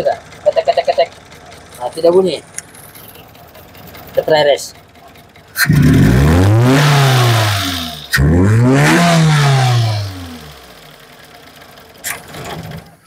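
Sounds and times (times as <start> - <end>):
car engine revving: 0.0 - 13.0
engine knocking: 0.0 - 13.0.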